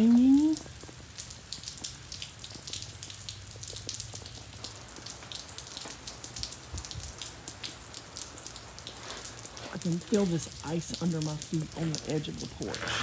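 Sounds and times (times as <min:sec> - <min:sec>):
freezing rain dripping: 0:00.0 - 0:13.0.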